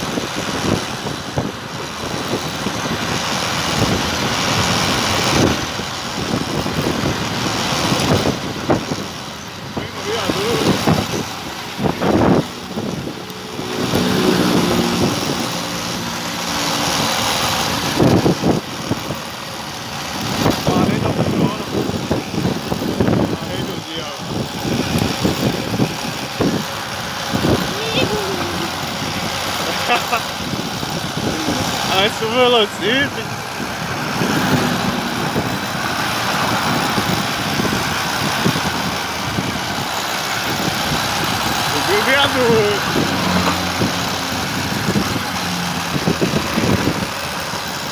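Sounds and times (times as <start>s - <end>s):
electric bike rushing noise: 0.0s - 47.9s
road noise: 0.0s - 47.9s
vehicle engine running: 0.0s - 47.9s
wind gusts: 0.0s - 47.9s.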